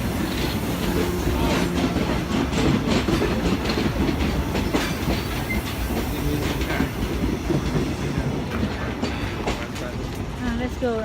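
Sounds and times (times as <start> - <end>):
train rumbling along rails: 0.0 - 11.0
wheels clacking over track: 0.0 - 11.0.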